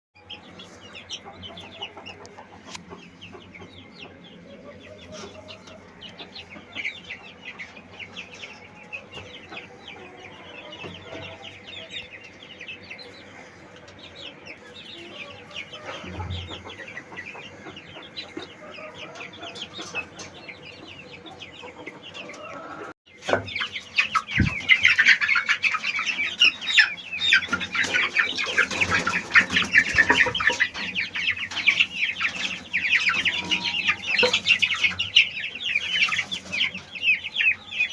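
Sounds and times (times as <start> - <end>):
chickens clucking and chirping: 0.2 - 37.9.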